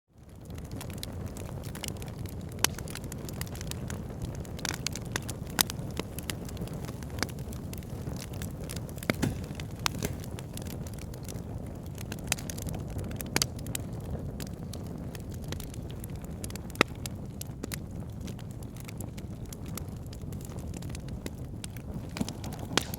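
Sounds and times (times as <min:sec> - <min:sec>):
fire burning with crackles: 0:00.1 - 0:22.9.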